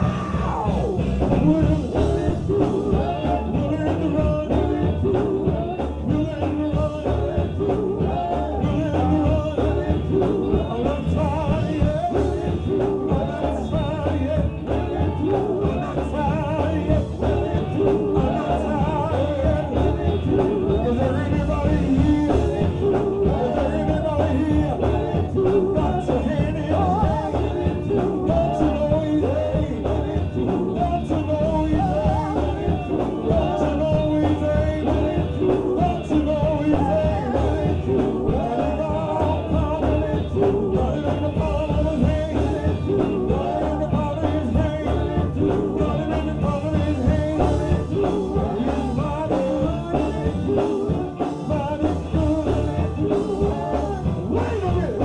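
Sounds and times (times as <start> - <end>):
bass: 0.0 - 55.0
drums: 0.0 - 55.0
singing voices: 0.0 - 55.0.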